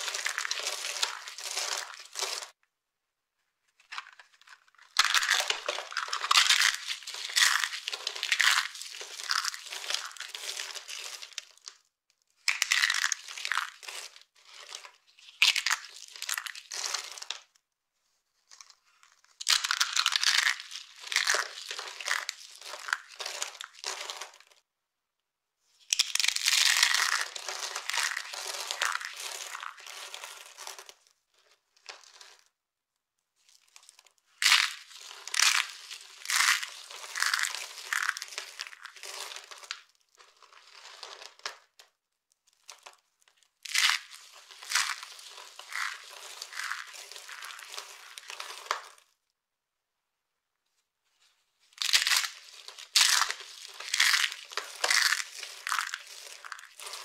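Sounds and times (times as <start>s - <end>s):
soap curls crackling and crunching: 0.0s - 2.6s, 3.8s - 17.6s, 18.4s - 24.6s, 25.8s - 32.6s, 33.4s - 49.2s, 51.6s - 57.0s.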